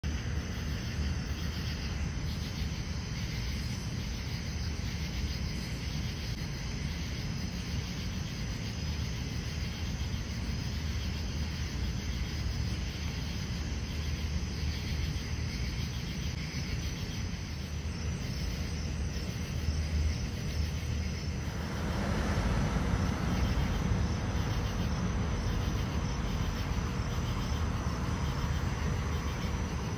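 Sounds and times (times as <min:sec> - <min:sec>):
low outdoor rumble: 0:00.0 - 0:29.9.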